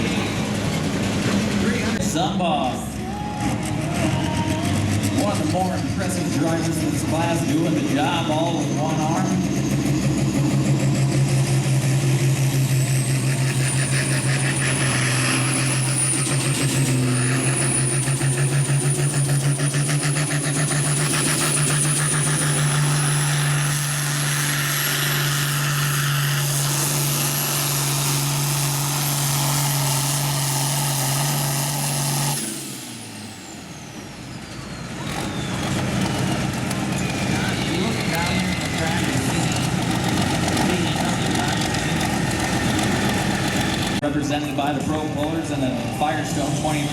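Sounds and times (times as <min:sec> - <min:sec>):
diesel tractor engine at full throttle: 0:00.0 - 0:46.9.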